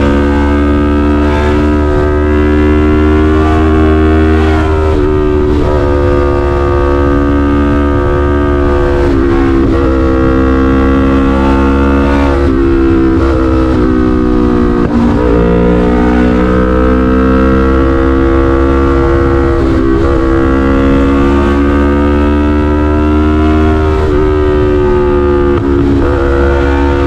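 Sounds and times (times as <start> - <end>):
motorcycle engine running hard: 0.0 - 27.0.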